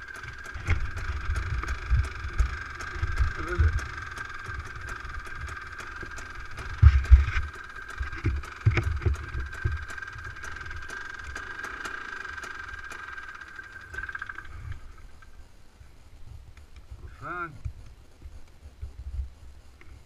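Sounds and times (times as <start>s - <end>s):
dune buggy engine idling: 0.0s - 16.2s.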